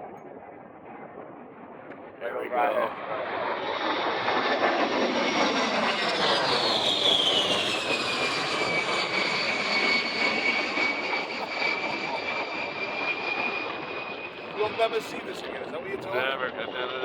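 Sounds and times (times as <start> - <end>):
jet engines passing with whine: 0.0 - 17.0.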